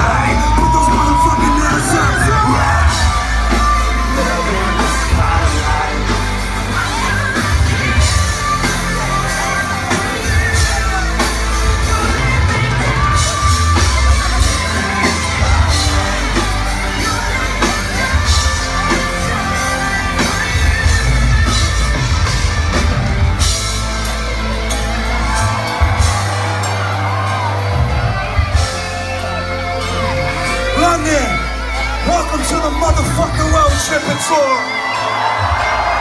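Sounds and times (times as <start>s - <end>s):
live rock song through pa: 0.0s - 36.0s
voices singing and yelling: 0.0s - 36.0s.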